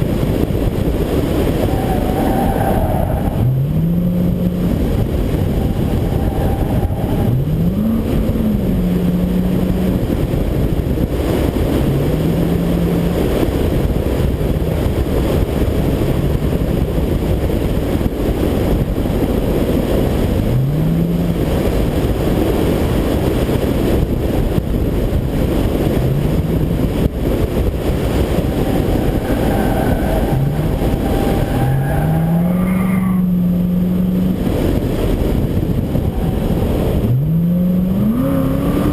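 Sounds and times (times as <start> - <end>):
pickup truck engine accelerating: 0.0 - 38.9
wind and road noise: 0.0 - 38.9.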